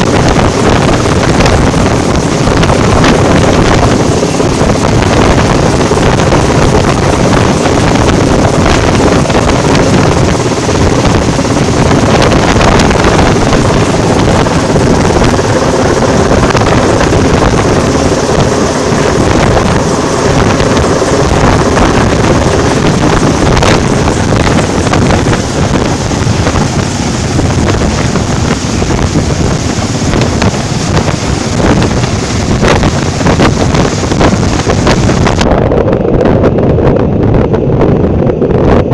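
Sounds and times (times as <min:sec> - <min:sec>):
motor noise: 0:00.0 - 0:36.0
wind buffeting microphone: 0:00.0 - 0:38.9.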